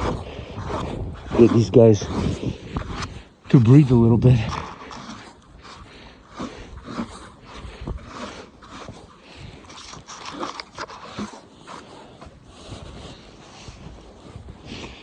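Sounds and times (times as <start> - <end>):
dog snuffling and panting: 0.0 - 15.0.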